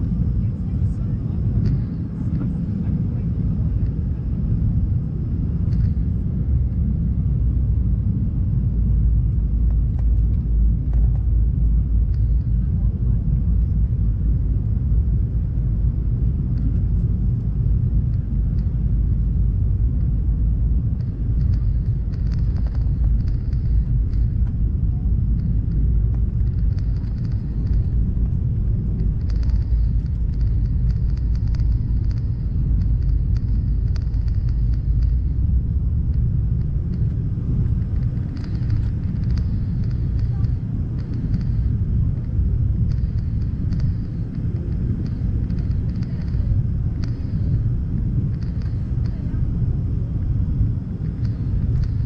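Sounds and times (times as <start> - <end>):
jet engine cabin rumble: 0.0 - 52.0.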